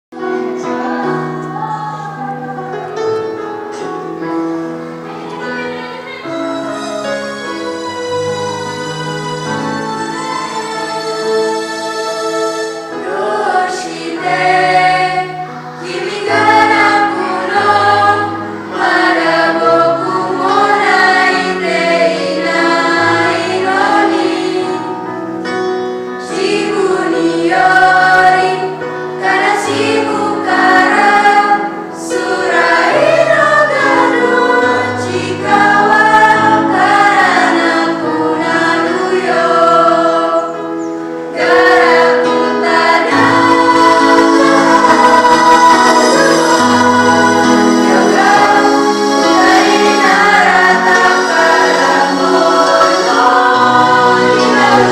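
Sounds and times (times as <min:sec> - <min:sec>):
group singing in unison: 0:00.2 - 0:03.3, 0:10.0 - 0:25.1, 0:26.2 - 0:54.9.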